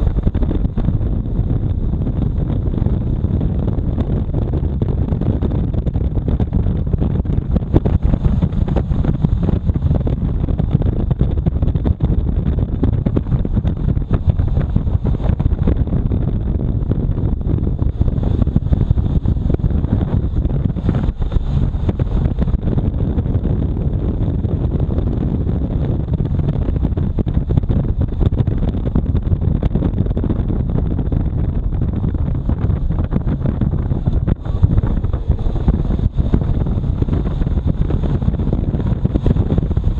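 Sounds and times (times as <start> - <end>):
motorcycle engine and road noise: 0.0 - 39.9
wind buffeting microphone: 0.0 - 39.9.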